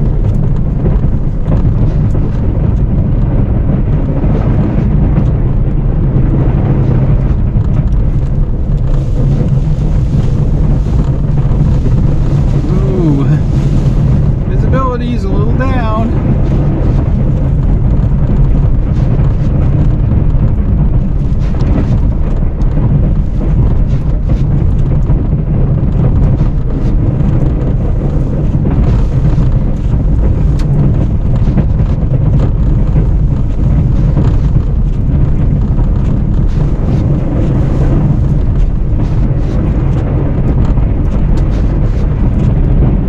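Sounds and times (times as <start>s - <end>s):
pickup truck engine droning: 0.0s - 43.0s
wind noise: 0.0s - 43.0s.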